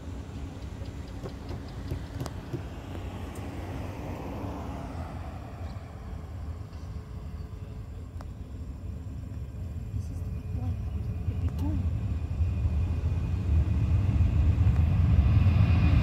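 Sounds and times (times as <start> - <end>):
steady low rumble: 0.0 - 16.0
van passing by: 0.0 - 16.0.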